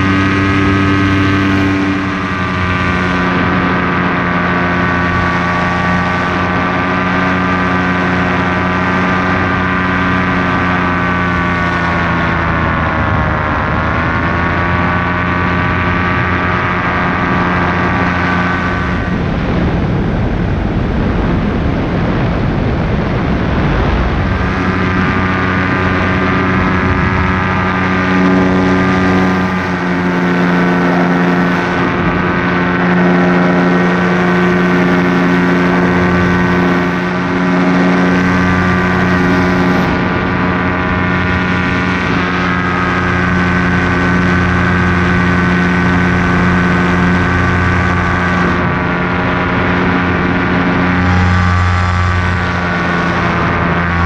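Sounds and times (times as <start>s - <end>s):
paramotor engine and propeller: 0.0s - 54.0s
wind rushing over microphone: 0.0s - 54.0s.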